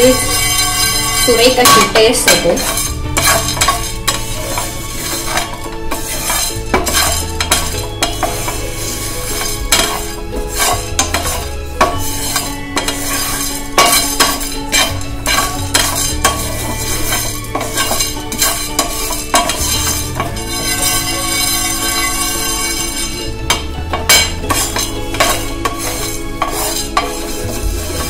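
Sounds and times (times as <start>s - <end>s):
background music: 0.0s - 28.0s
spatula scraping spices in pan: 0.0s - 28.0s.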